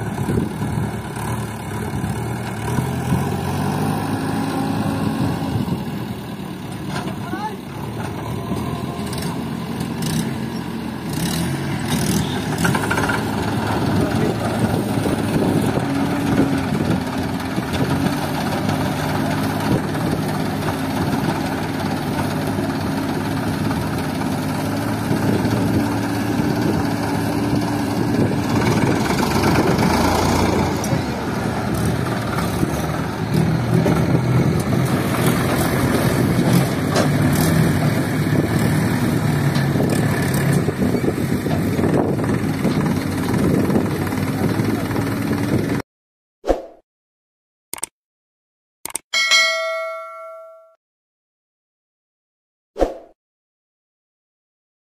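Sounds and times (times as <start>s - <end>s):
backhoe loader engine: 0.0s - 45.8s
tractor diesel engine running: 0.0s - 45.8s.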